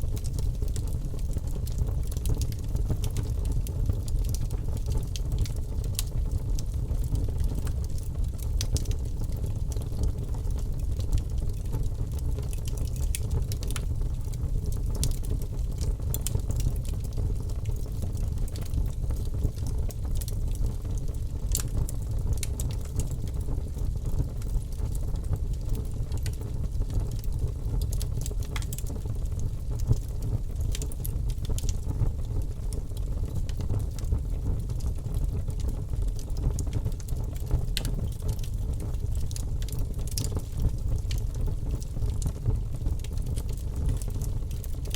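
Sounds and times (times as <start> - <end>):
fire crackling and popping: 0.0 - 44.9
low rumble of flames: 0.0 - 44.9.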